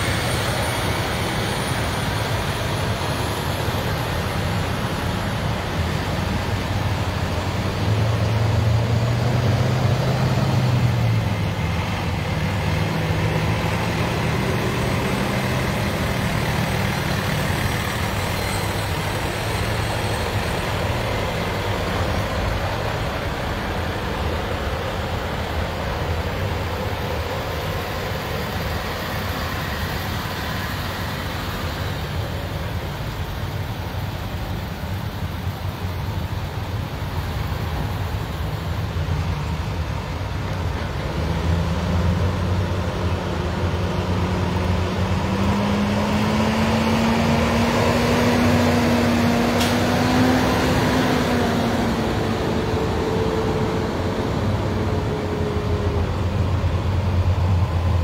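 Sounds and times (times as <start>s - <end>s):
road noise: 0.0s - 58.0s
truck engines driving past: 0.0s - 58.0s.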